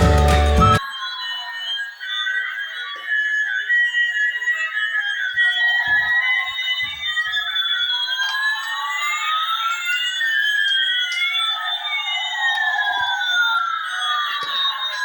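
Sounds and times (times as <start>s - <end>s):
synthesized siren-like tones: 0.0s - 15.0s.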